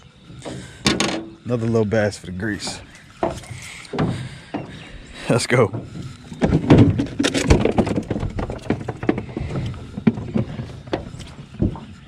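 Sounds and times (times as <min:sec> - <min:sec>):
knocks and clatter in a boat: 0:00.0 - 0:12.0.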